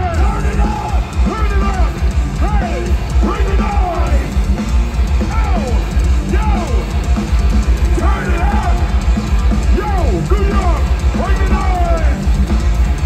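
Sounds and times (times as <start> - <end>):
heavy metal band playing: 0.0 - 13.0
pounding drum kit: 0.0 - 13.0.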